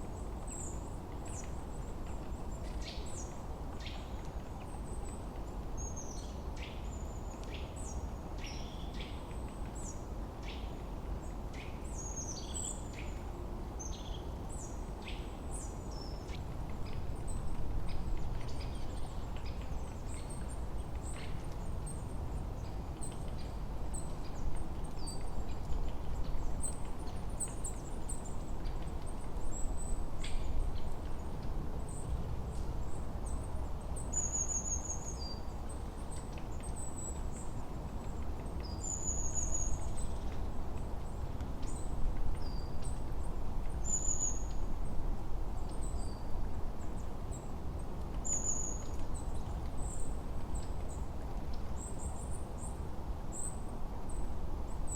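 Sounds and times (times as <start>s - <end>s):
low rush of wind: 0.0s - 54.9s.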